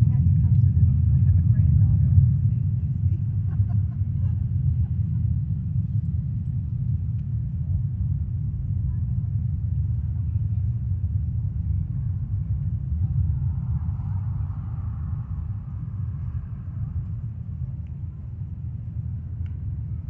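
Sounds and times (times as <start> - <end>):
distant rocket engines rumbling: 0.0 - 20.0.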